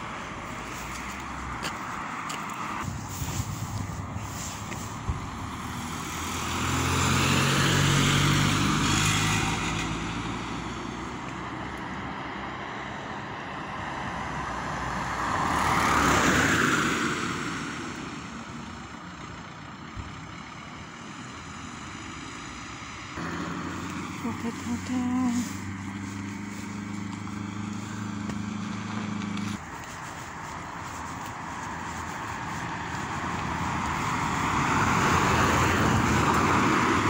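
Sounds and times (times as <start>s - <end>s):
cars passing on a road: 0.0s - 37.0s.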